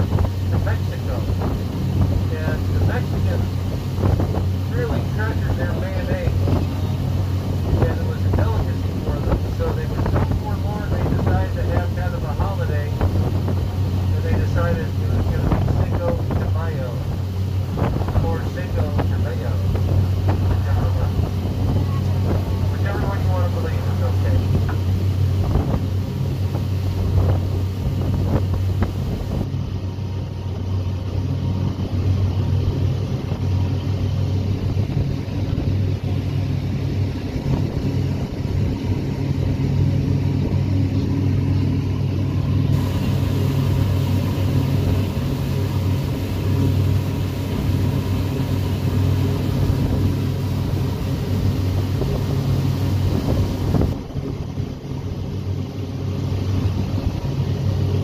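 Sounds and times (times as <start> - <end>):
ferry engine droning: 0.0 - 58.0
water rushing along hull: 0.0 - 58.0.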